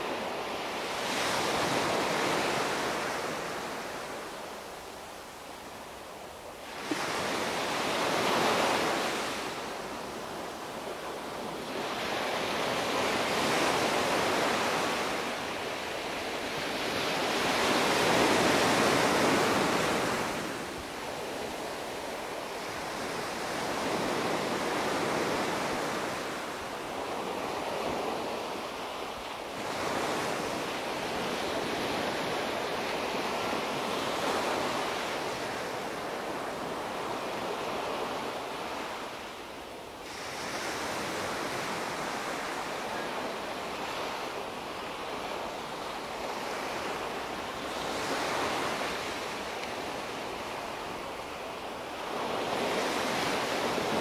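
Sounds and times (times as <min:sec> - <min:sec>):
waves washing up a beach: 0:00.0 - 0:54.0.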